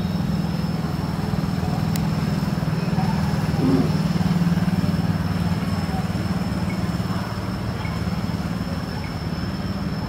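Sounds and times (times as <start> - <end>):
motor running steadily: 0.0 - 10.0
thin high steady whine: 0.0 - 10.0.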